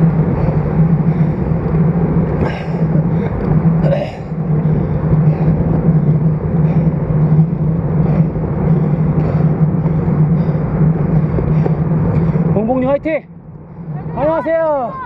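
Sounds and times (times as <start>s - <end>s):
low hum: 0.0s - 14.2s
road noise: 0.0s - 15.0s
rushing wind: 0.0s - 15.0s.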